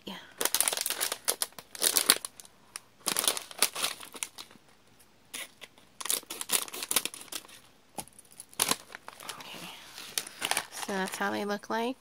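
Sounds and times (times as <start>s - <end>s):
plastic packaging crinkling: 0.3s - 4.6s, 5.4s - 11.5s.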